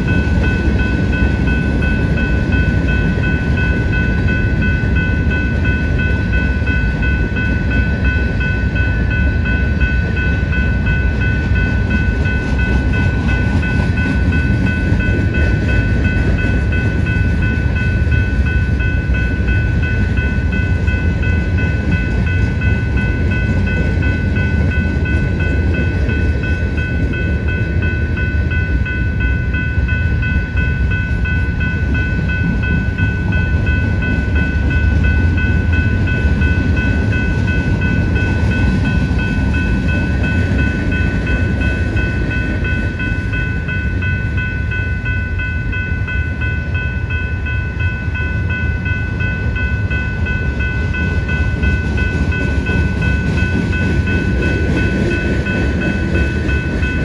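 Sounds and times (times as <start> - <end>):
freight train wheels rumbling: 0.0 - 57.0
high ringing tone: 0.0 - 57.0.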